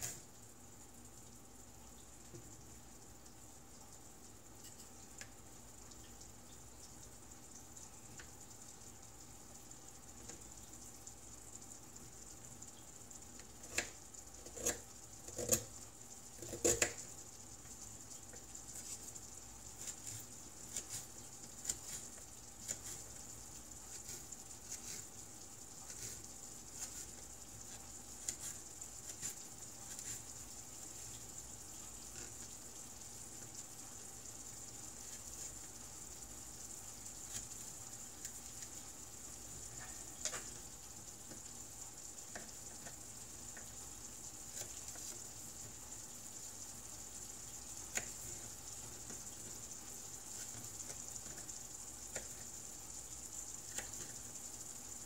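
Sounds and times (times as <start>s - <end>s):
food sizzling in a pan: 0.0s - 55.0s
crackles and pops: 4.6s - 54.8s.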